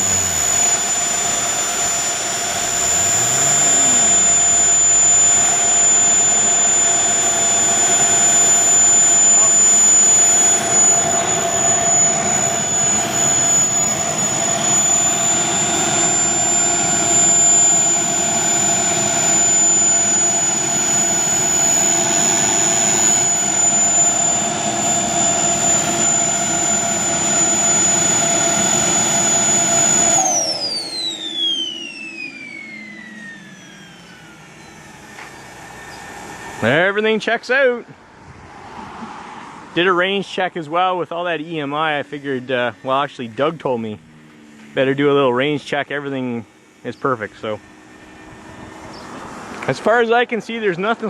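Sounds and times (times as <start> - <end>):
jet turbines whining: 0.0 - 51.0.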